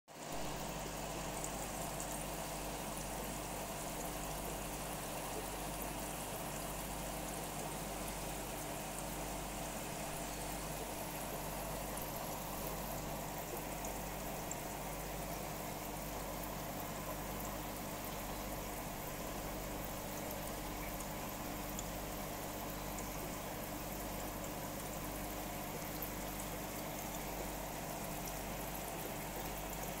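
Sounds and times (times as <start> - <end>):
aquarium water bubbling: 0.2 - 30.0
constant low hum: 0.3 - 30.0.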